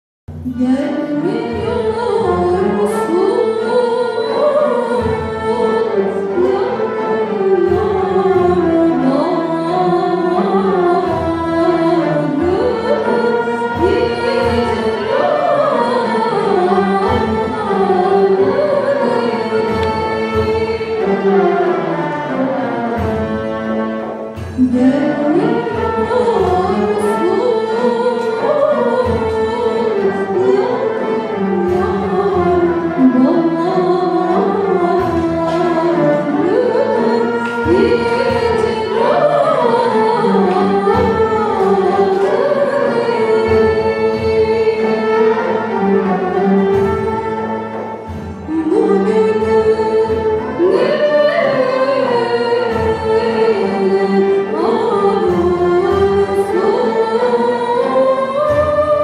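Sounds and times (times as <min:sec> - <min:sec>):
classical string ensemble playing: 0:00.3 - 0:59.0
woman singing: 0:00.4 - 0:23.3, 0:24.4 - 0:59.0.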